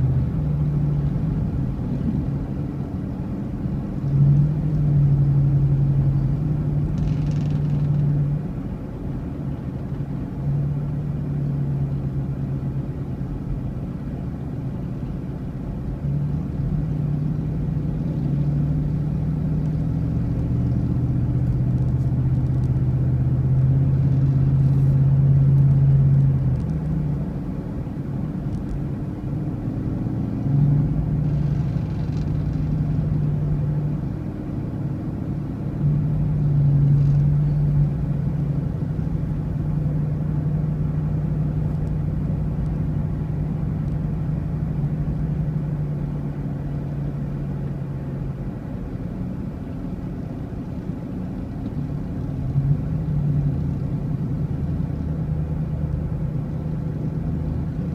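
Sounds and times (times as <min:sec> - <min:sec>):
vehicle engine drone: 0:00.0 - 0:57.9.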